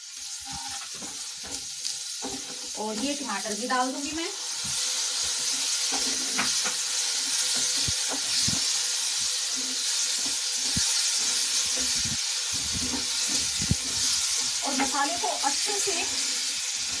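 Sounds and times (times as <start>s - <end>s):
sauce sizzling in hot oil: 0.0s - 17.0s.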